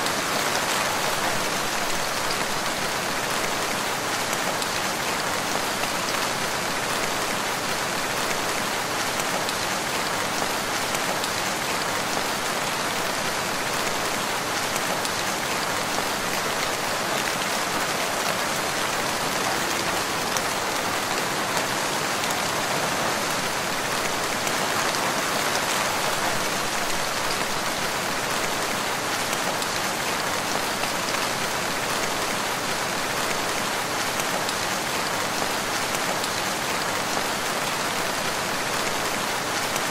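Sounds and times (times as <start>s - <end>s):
rain pattering in a forest: 0.0s - 39.9s.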